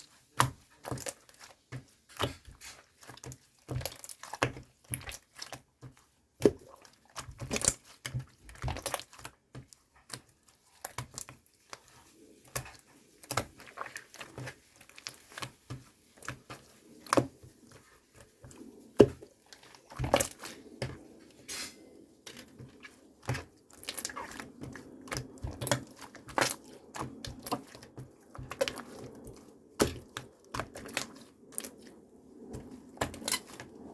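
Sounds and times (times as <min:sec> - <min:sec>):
faint steady background noise: 0:00.0 - 0:33.9.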